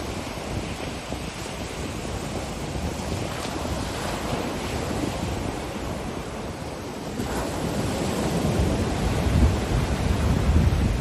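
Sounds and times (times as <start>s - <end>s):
waves breaking on beach: 0.0s - 11.0s
wind: 0.0s - 11.0s.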